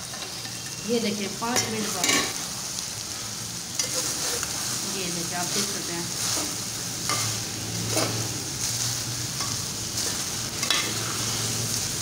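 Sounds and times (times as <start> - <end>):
mince sizzling: 0.0 - 12.0.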